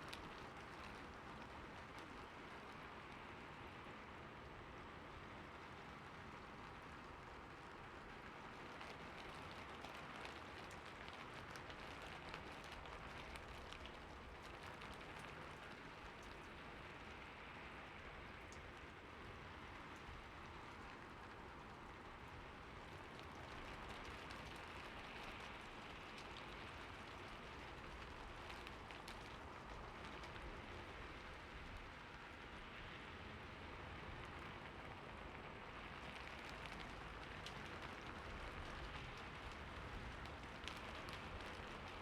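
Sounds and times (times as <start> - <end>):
raindrop ticks: 0.0 - 4.5, 6.3 - 42.0
soft rain hiss: 0.0 - 42.0.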